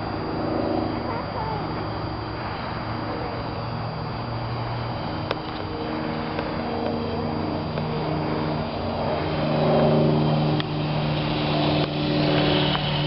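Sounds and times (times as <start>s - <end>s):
model plane propeller droning: 0.0s - 13.0s.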